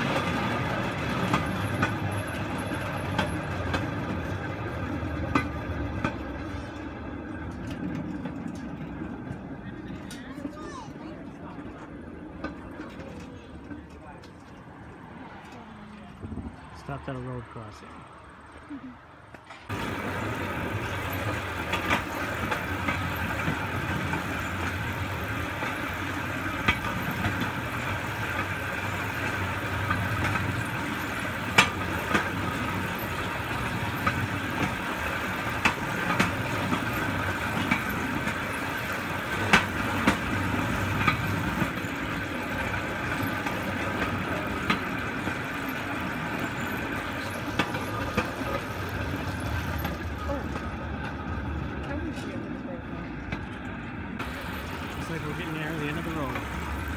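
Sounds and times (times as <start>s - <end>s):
steel wheels rumbling on track: 0.0s - 18.6s, 19.3s - 56.9s
wheels clicking over rail joints: 0.0s - 18.6s, 19.2s - 56.9s.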